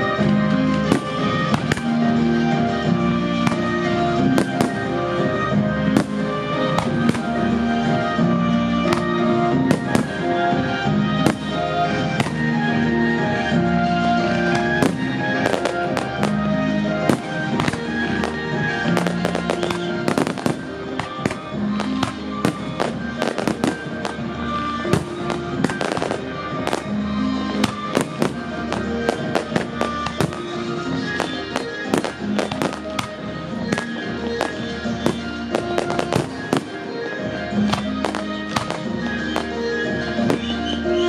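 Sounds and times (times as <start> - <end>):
music with long held notes: 0.0 - 41.0.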